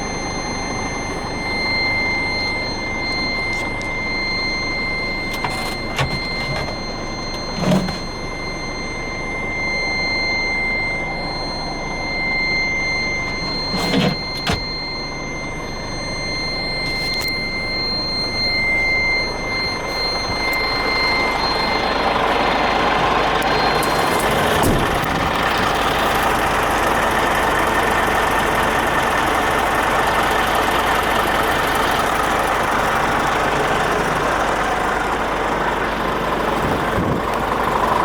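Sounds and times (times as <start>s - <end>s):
diesel engine running: 0.0s - 38.0s
steady high tone: 0.0s - 38.0s.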